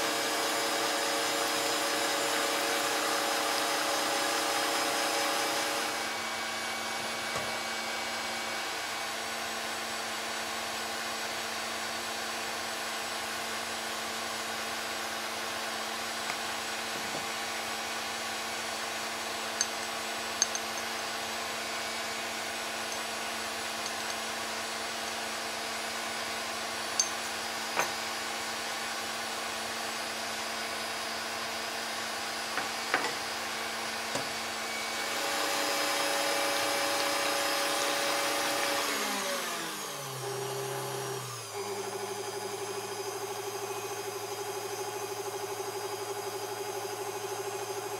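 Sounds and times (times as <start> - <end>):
electric mixer running: 0.0 - 9.7, 14.5 - 47.9.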